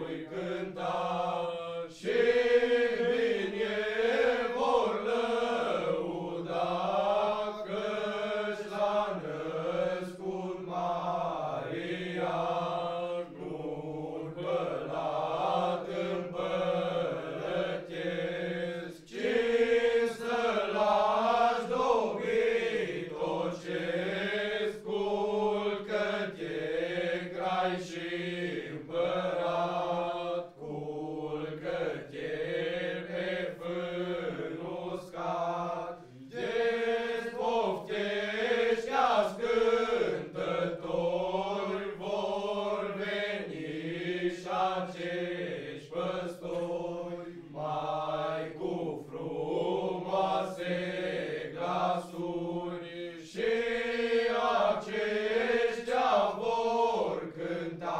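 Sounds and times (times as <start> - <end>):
young men singing unaccompanied: 0.0 - 57.9.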